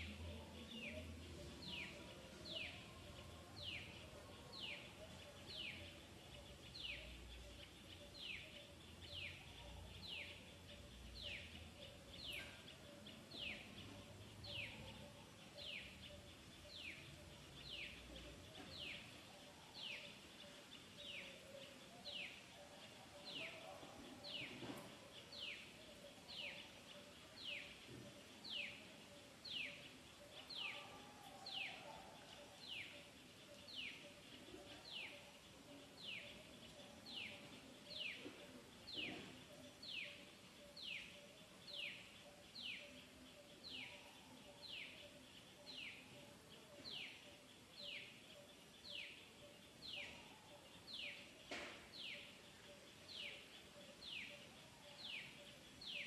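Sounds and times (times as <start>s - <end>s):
faint outdoor background: 0.0s - 56.0s.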